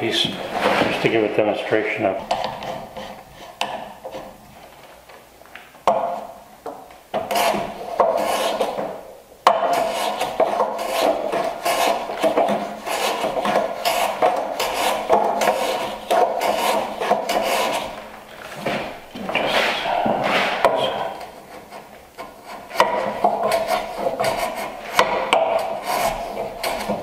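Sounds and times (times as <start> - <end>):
hand plane scraping wood: 0.1 - 4.4, 7.2 - 27.0.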